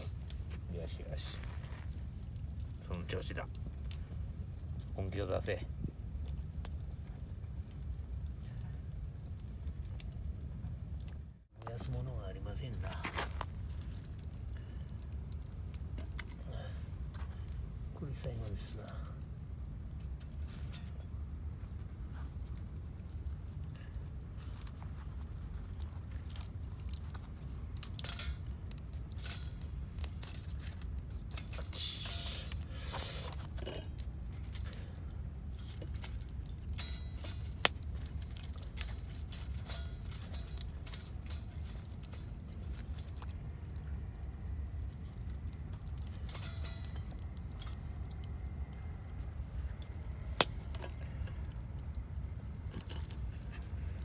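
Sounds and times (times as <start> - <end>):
steady low rumble: 0.0 - 54.0
wood fire crackling and popping: 0.0 - 54.0.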